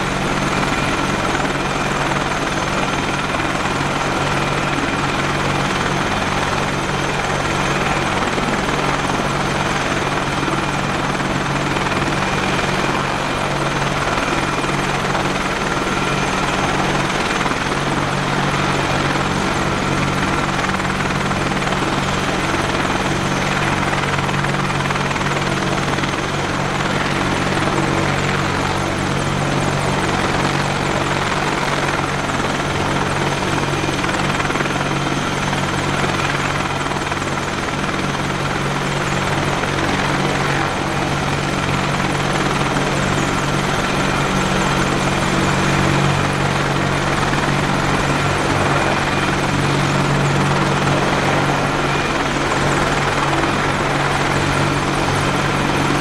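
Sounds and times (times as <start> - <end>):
helicopter rotors droning: 0.0 - 56.0
high turbine whine: 0.0 - 56.0.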